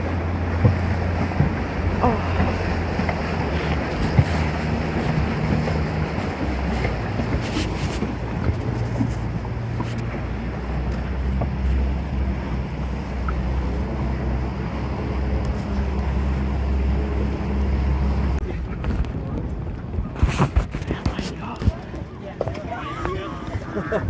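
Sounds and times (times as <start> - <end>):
boat engine humming: 0.0 - 24.0
water noise: 0.0 - 24.0
wind on microphone: 0.0 - 24.0.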